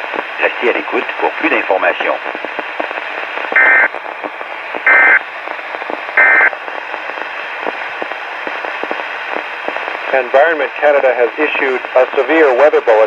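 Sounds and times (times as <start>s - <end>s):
radio hiss with crackle: 0.0s - 13.0s.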